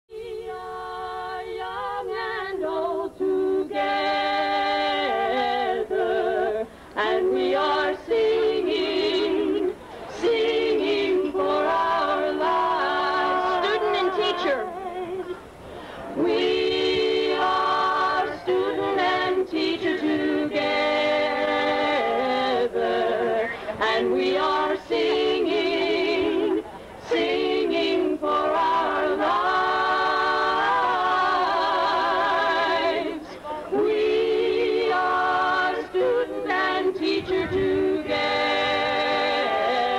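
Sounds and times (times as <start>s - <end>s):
unaccompanied voices singing: 0.1s - 39.9s.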